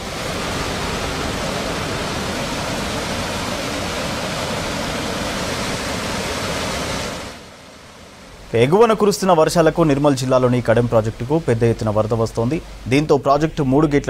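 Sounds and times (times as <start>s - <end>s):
water rushing over a weir: 0.0s - 14.0s.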